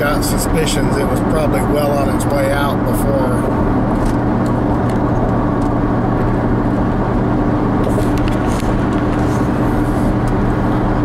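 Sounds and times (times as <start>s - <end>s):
motor vehicle hum: 0.0s - 11.0s.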